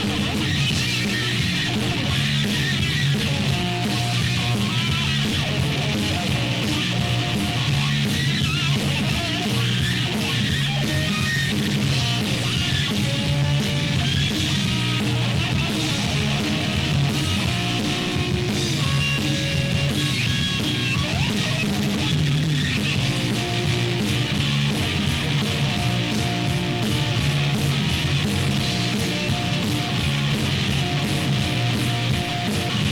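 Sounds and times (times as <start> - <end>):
distorted electric guitar: 0.0 - 32.9.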